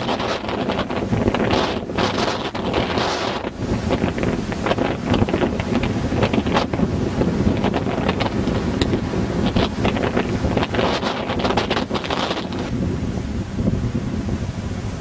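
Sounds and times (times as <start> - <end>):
sea waves rushing: 0.0 - 15.0
wind buffeting microphone: 0.0 - 15.0.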